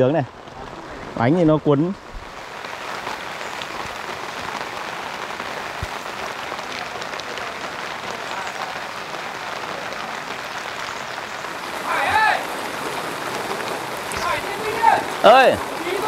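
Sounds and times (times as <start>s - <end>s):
steady rain falling: 0.0s - 16.0s
single raindrops ticking: 2.1s - 16.0s.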